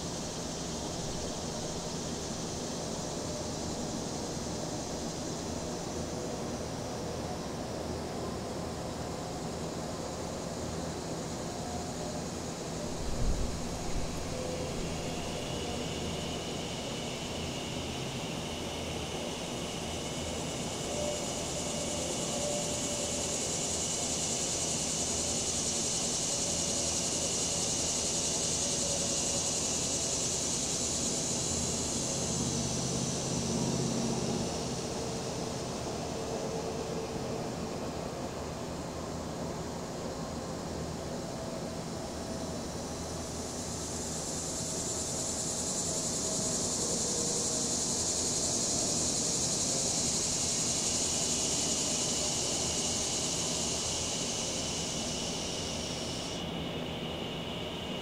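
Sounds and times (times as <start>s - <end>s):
cicadas droning: 0.0s - 58.0s.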